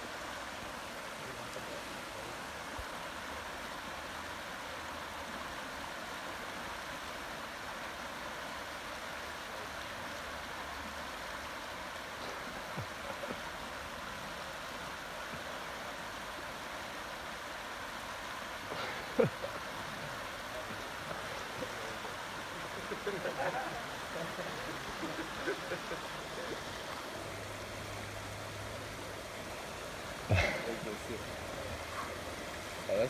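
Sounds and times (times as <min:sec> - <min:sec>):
river rushing over rocks: 0:00.0 - 0:33.0.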